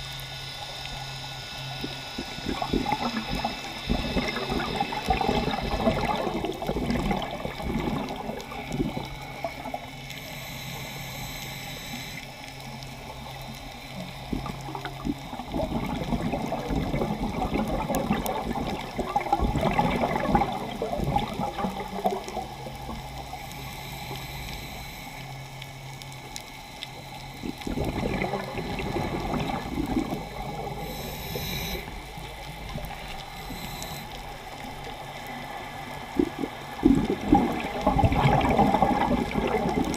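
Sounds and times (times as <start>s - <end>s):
scuba regulator exhaust bubbles gurgling: 0.0s - 39.9s.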